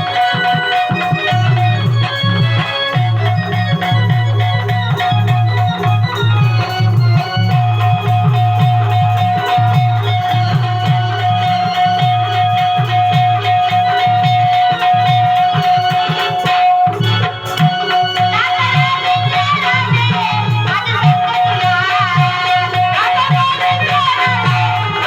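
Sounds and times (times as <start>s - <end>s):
organ melody: 0.0s - 21.4s
hand drum steady beat: 0.0s - 25.0s.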